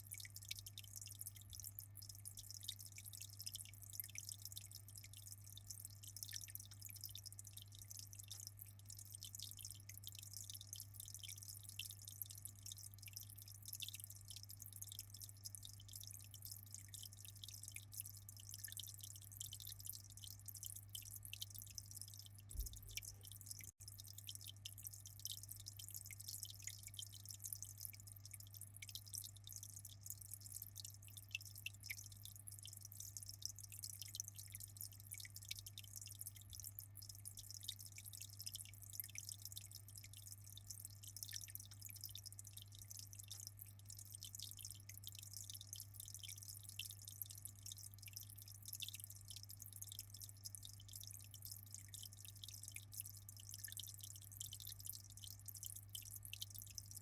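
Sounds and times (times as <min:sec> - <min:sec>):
water trickling and dripping: 0:00.0 - 0:57.0.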